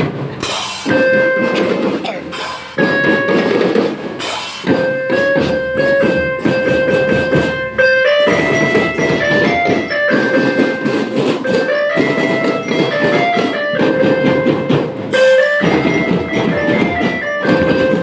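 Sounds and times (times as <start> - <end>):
marching band playing: 0.0 - 18.0
steady drum beat: 0.0 - 18.0.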